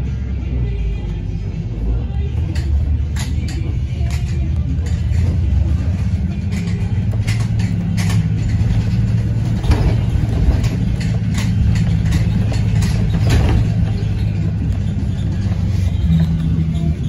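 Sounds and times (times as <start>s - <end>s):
bus engine drone: 0.0s - 17.0s
body knocks and rattles: 2.3s - 17.0s.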